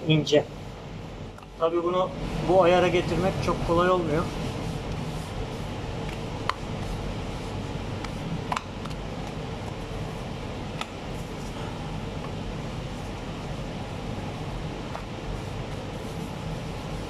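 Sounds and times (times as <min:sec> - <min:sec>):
kitchen machinery hum: 0:00.0 - 0:17.0.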